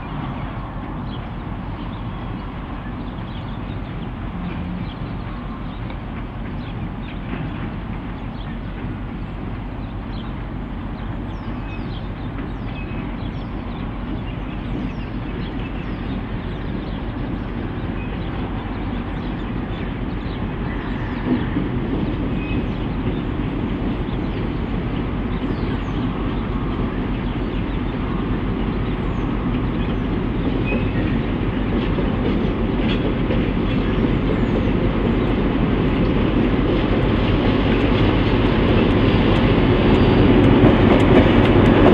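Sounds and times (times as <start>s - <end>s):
diesel locomotive engines: 0.0s - 41.9s
train wheels on rails: 0.0s - 41.9s.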